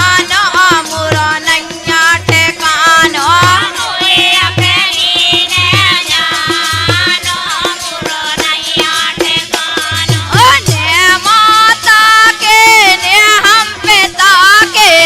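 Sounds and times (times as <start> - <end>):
hand drum beat: 0.0 - 12.8.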